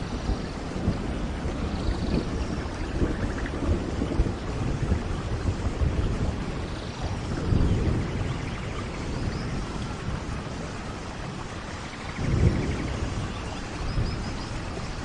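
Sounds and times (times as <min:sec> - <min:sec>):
heavy rain: 0:00.0 - 0:15.0
low rolling thunder: 0:00.0 - 0:15.0.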